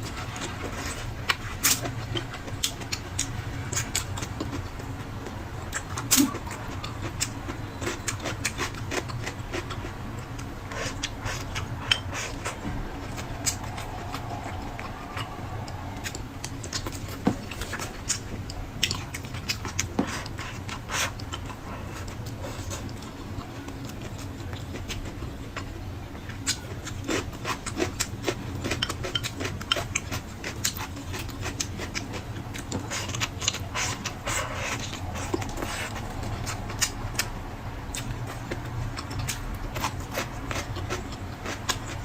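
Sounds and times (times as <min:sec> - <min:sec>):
chewing with wet mouth clicks: 0:00.0 - 0:42.0
steady low hum: 0:00.0 - 0:42.0.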